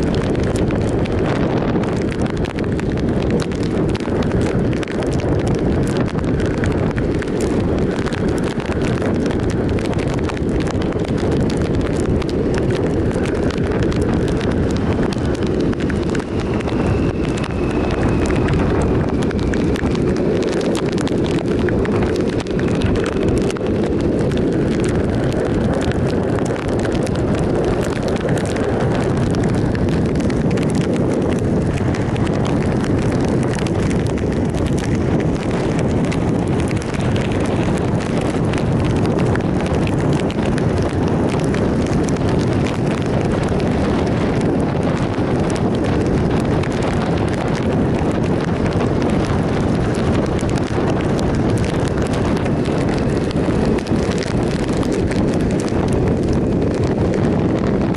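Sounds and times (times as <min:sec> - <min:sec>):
wind rush on microphone: 0:00.0 - 0:57.9
motorcycle engine cruising: 0:03.4 - 0:57.9.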